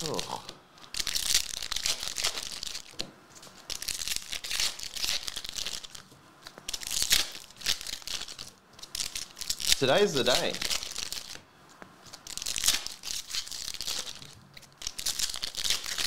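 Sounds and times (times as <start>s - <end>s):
foil wrappers tearing and crinkling: 0.0s - 6.0s, 6.7s - 11.4s, 12.0s - 16.0s.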